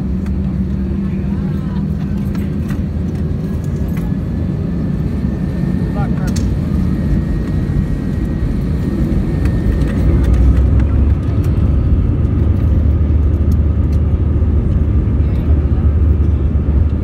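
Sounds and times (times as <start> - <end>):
jet engine rumble: 0.0 - 17.0
wheels rolling on taxiway: 0.0 - 17.0.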